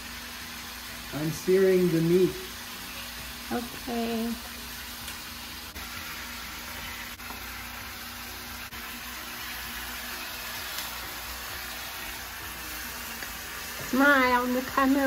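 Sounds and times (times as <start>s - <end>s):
beef sizzling in frying pan: 0.0s - 15.0s.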